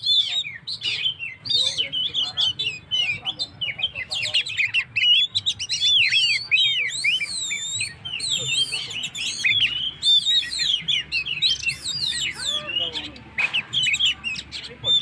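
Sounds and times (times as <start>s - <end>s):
bird singing whistles and chirps: 0.0s - 15.0s.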